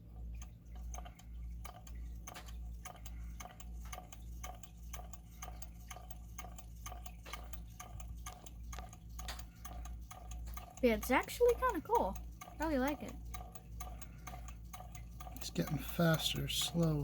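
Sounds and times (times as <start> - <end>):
small engine rhythmic ticking: 0.0 - 17.0.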